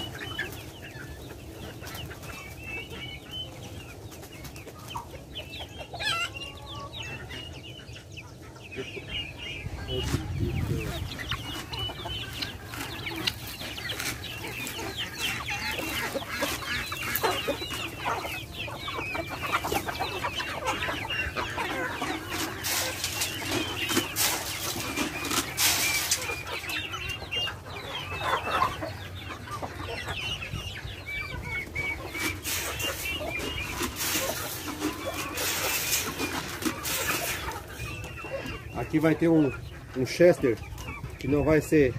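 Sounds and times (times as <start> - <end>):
chickens clucking: 0.0 - 41.9
chicks peeping: 0.0 - 41.9.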